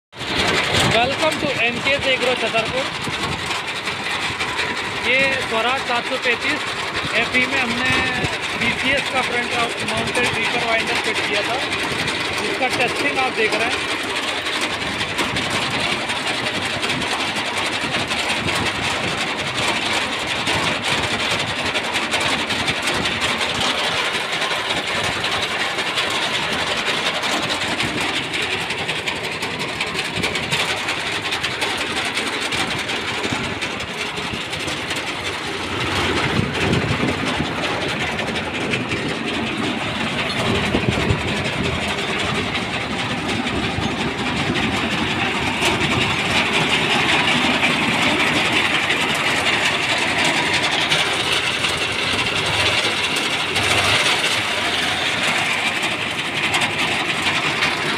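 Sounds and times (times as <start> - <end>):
tractor diesel engine running: 0.1 - 57.9
reaper mechanism clattering: 0.2 - 57.9.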